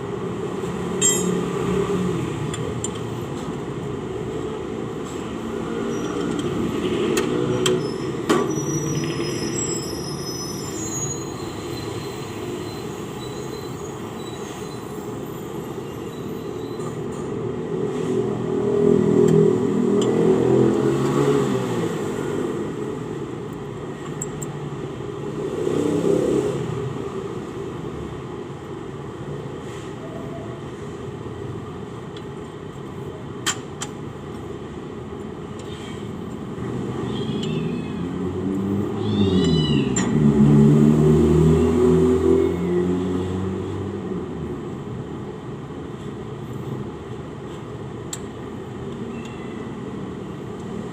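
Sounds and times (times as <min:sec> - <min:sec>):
vehicles passing: 0:00.0 - 0:50.9.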